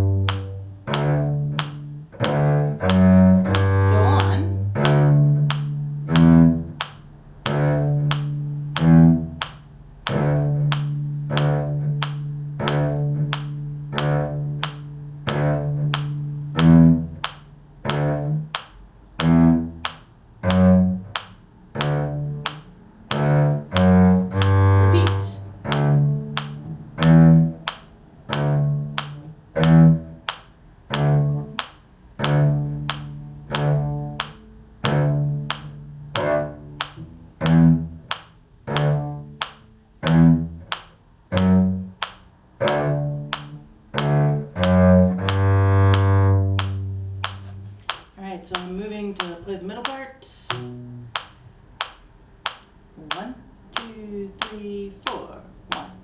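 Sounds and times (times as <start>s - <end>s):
cello bass line: 0.0s - 56.0s
metronome clicks: 0.0s - 56.0s.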